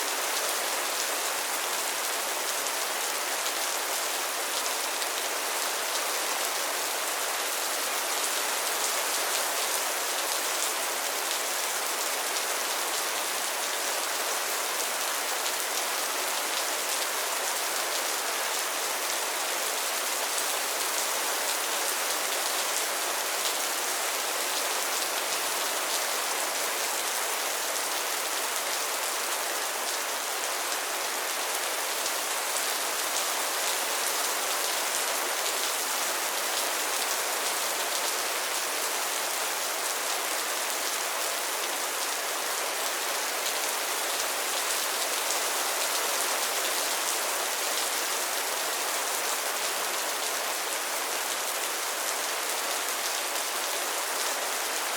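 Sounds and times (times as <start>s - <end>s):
rain on pond surface: 0.0s - 54.9s.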